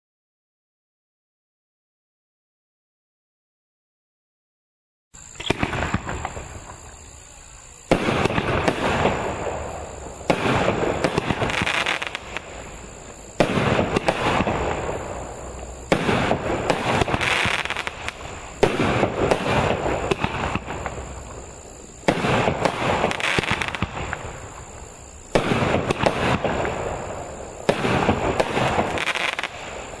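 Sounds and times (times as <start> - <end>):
firework bangs: 5.2 - 30.0
firework crackling: 5.2 - 30.0.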